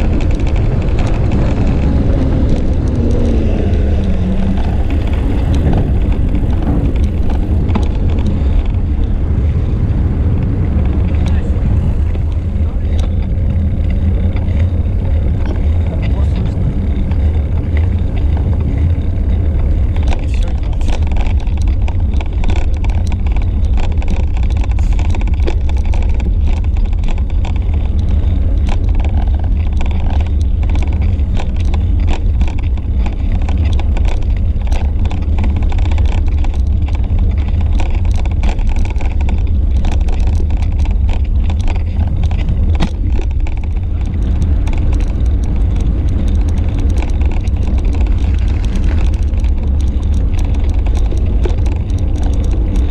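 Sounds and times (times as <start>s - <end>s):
small clicks and rattles: 0.0s - 52.9s
wind buffeting microphone: 0.0s - 52.9s.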